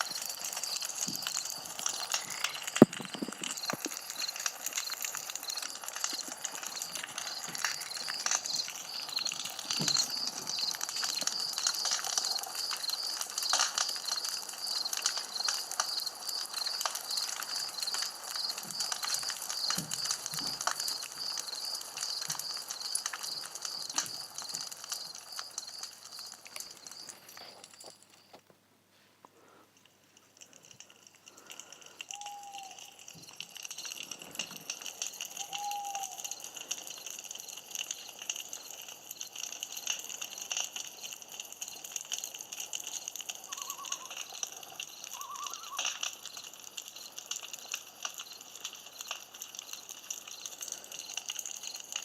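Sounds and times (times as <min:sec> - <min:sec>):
campfire crackling and popping: 0:00.0 - 0:28.5, 0:29.2 - 0:52.0.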